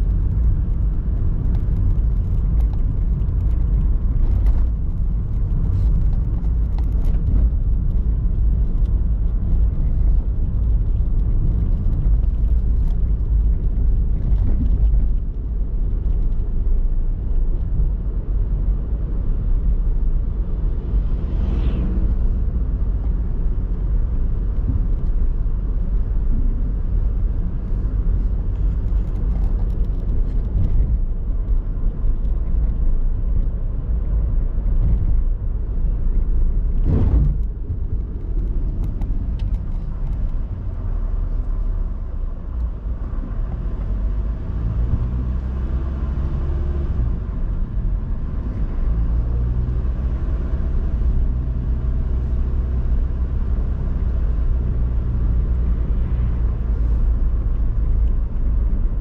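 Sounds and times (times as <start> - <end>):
car driving on road: 0.0 - 59.0.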